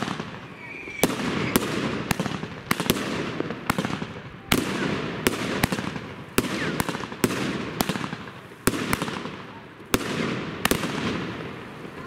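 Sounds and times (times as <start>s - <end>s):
fireworks bangs with crackle: 0.0s - 12.0s.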